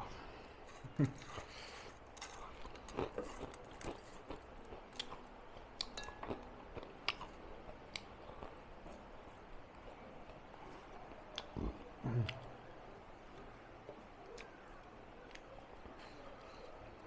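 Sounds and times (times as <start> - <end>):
person chewing food: 0.6 - 12.6, 13.3 - 17.0.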